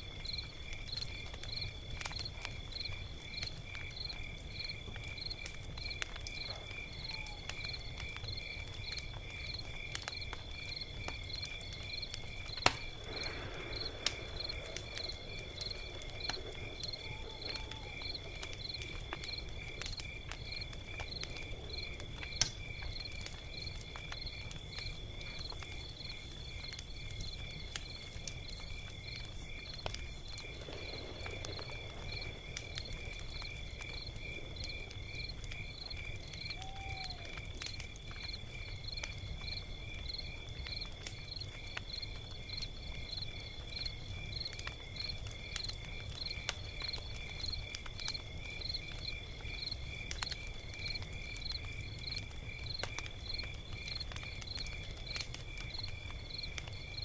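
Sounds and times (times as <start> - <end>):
crickets chirping: 0.0 - 57.0
log fire crackling: 0.0 - 57.0.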